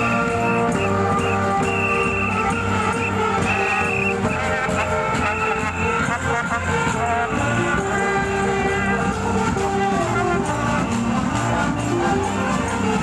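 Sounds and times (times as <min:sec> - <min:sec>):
brass band playing melody: 0:00.0 - 0:13.0.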